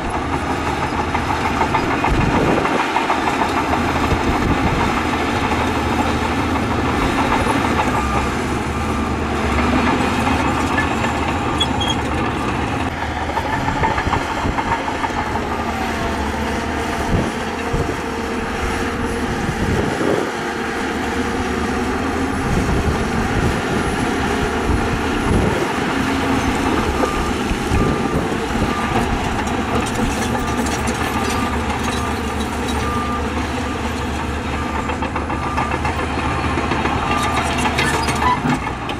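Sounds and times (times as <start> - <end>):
bulldozer diesel engine: 0.0 - 38.9
steel tracks clanking: 0.0 - 38.9.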